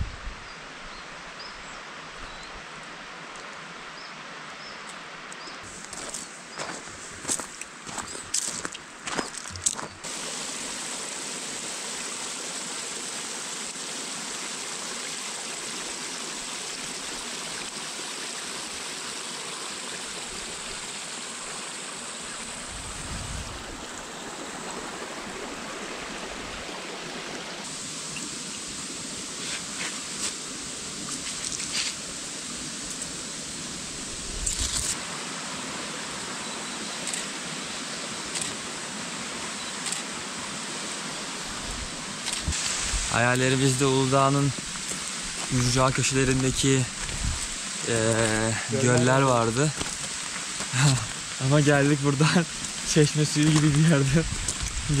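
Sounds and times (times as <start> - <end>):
small stream running: 0.0 - 55.0.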